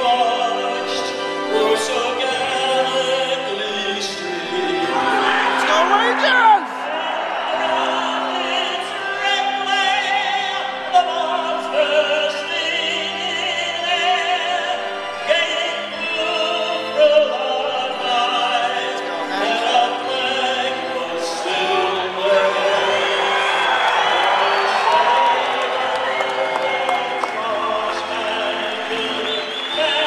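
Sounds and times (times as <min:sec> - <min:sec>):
man singing operatically: 0:00.0 - 0:25.8, 0:26.4 - 0:30.0.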